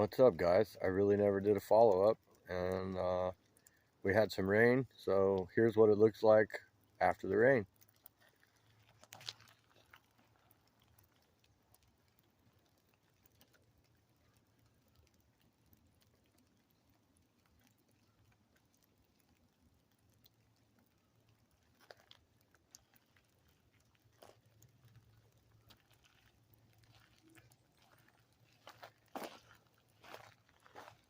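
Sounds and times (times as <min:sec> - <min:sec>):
soft clicks and rustles: 0:01.7 - 0:04.1, 0:06.6 - 0:31.0.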